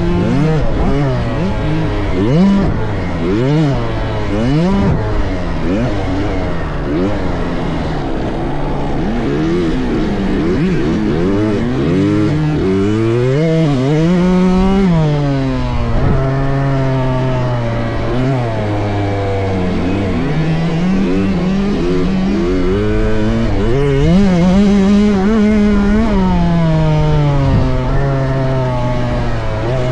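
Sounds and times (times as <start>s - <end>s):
motocross bikes revving: 0.0s - 29.9s.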